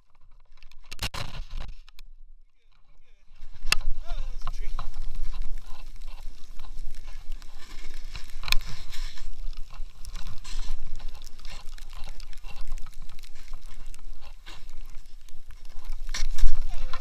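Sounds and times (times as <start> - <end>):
wind buffeting microphone: 3.3 - 17.0
skis hissing through powder snow: 3.4 - 17.0.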